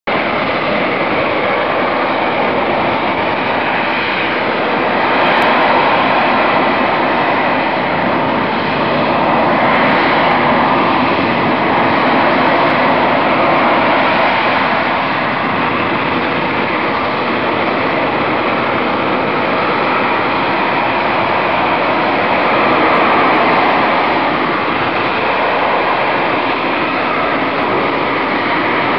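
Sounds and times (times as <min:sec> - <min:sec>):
jet engine rushing: 0:00.1 - 0:28.9.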